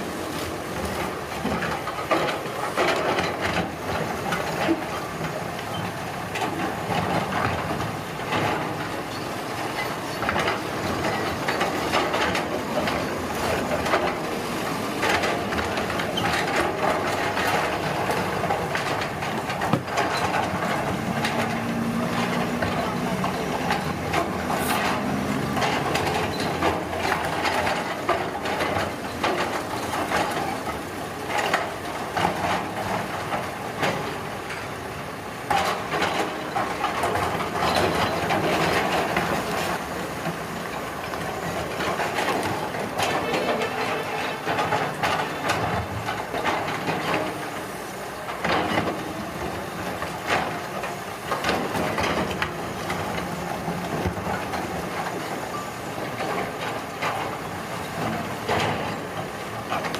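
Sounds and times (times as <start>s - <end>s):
construction machinery engine drone: 0.0s - 59.9s.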